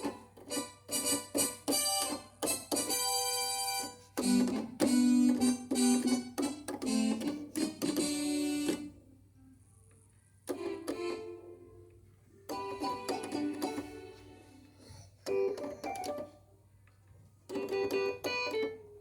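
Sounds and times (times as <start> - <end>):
keyboard chords: 0.0 - 9.0, 10.5 - 16.5, 17.5 - 19.0.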